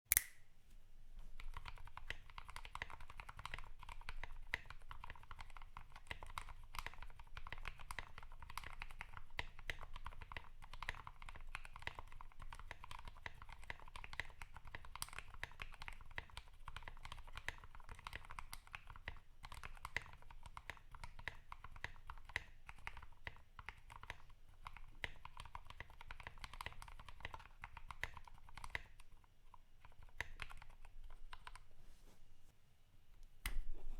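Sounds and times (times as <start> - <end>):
fast typing on mechanical keyboard: 1.4 - 31.6.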